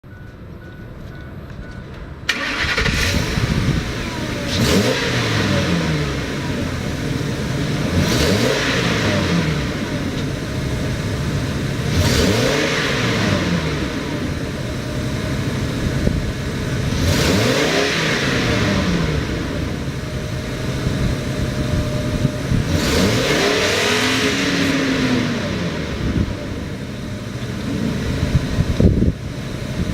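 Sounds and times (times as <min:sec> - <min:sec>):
truck engine starting and revving: 0:02.2 - 0:29.9.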